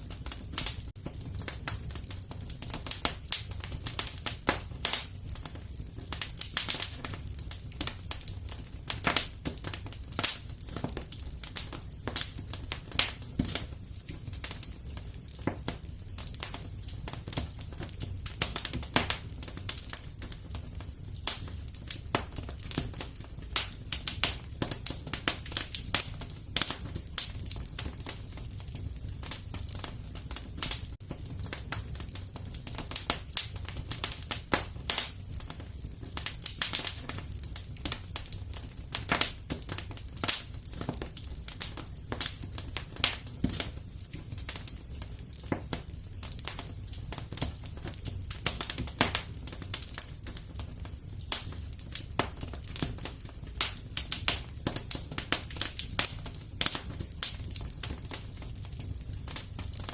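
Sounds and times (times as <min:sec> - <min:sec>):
fire popping and snapping: 0:00.0 - 0:59.9
flames rumbling: 0:00.0 - 0:59.9.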